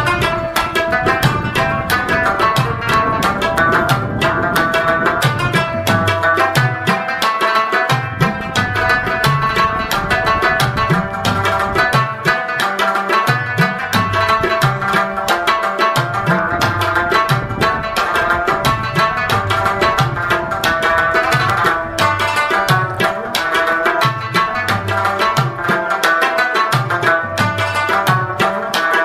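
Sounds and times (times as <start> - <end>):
hand drum strokes: 0.0 - 29.0.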